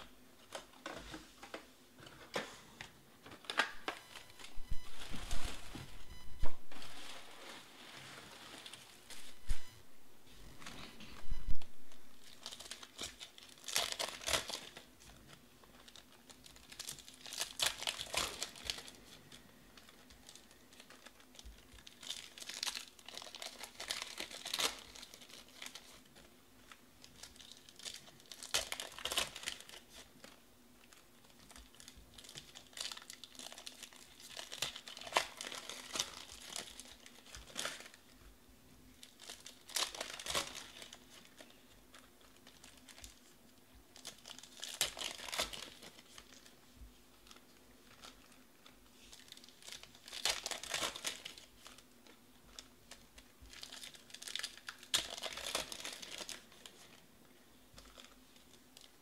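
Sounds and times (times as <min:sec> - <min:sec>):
foil wrappers crinkling and tearing: 0:03.4 - 0:09.4, 0:11.8 - 0:38.2, 0:38.9 - 0:57.1, 0:57.7 - 0:59.0.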